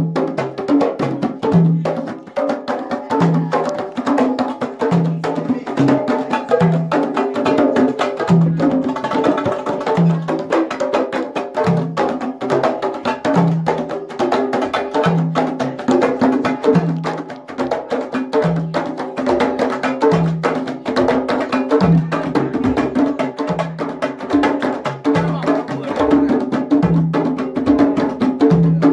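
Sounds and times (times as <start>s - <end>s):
hand drums playing: 0.0s - 28.9s.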